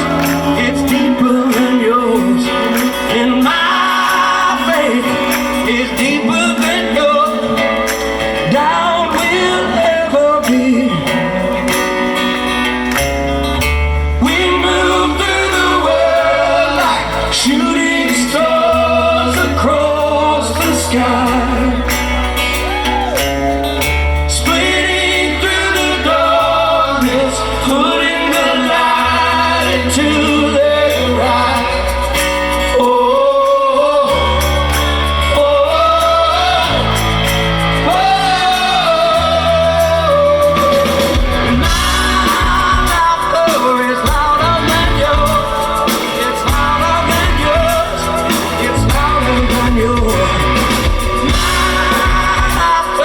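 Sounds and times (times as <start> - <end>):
bass line: 0.0 - 53.0
live rock band playing: 0.0 - 53.0.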